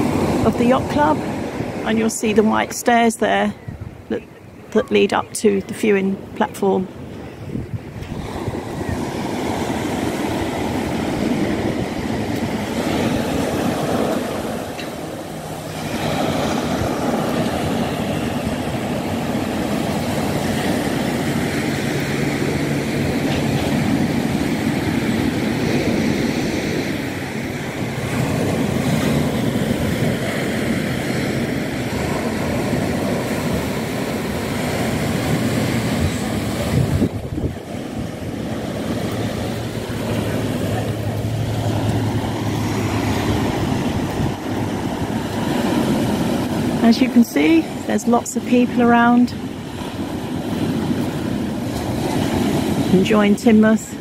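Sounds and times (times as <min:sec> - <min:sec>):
sea surf breaking: 0:00.0 - 0:54.0
wind on microphone: 0:00.0 - 0:54.0.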